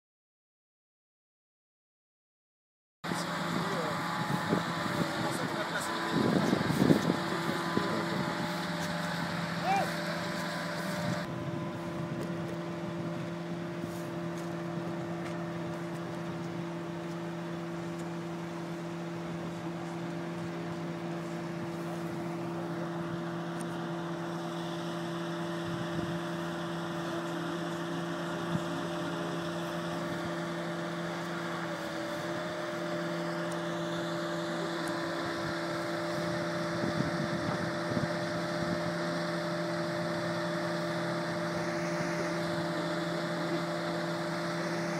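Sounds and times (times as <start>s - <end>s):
crane engine humming: 3.0s - 44.9s.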